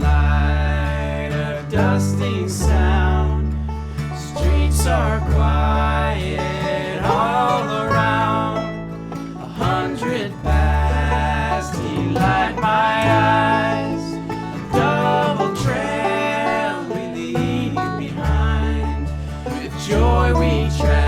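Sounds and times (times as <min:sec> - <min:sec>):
banjo: 0:00.0 - 0:21.0
double bass: 0:00.0 - 0:21.0
fiddle: 0:00.0 - 0:21.0
guitar: 0:00.0 - 0:21.0.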